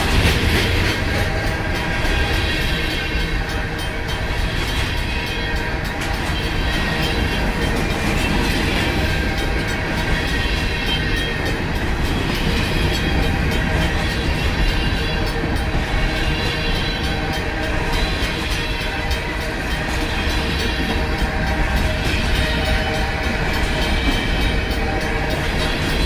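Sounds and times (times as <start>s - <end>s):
freight train wheels on rail: 0.0s - 26.0s.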